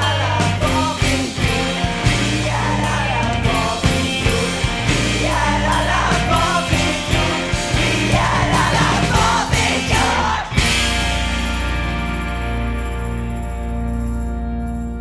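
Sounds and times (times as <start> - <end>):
drums: 0.0 - 14.0
rock band playing: 0.0 - 14.9
held guitar chord ringing: 0.0 - 15.0.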